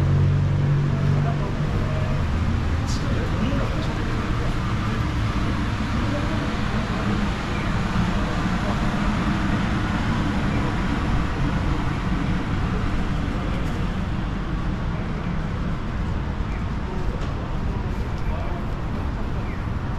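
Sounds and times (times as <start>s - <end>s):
road traffic: 0.0s - 19.9s.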